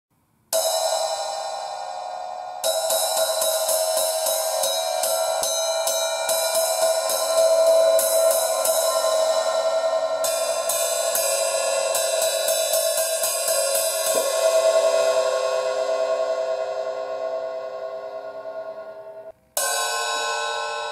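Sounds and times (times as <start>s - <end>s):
hi-hat played with a stick: 0.5s - 20.9s.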